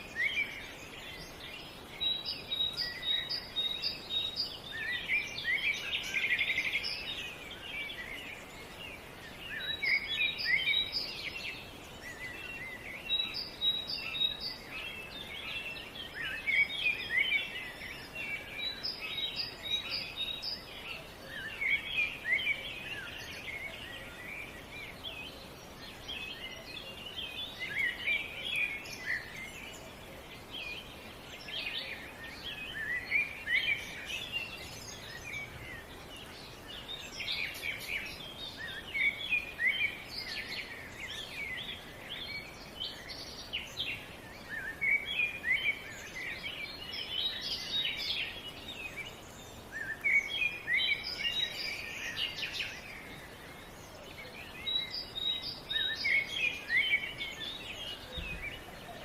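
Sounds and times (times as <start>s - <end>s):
faint steady hiss: 0.0s - 59.0s
songbirds chirping and singing: 0.0s - 59.0s.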